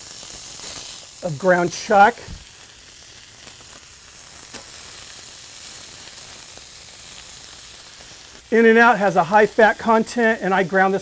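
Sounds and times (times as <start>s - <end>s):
burgers sizzling on a griddle: 0.0s - 11.0s.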